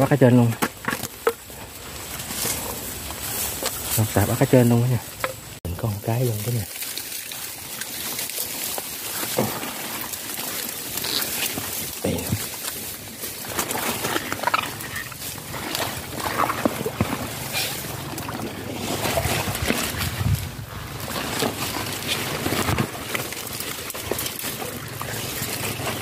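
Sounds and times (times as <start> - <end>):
rustling leaves: 0.0 - 26.0
water sloshing and splashing: 0.8 - 26.0.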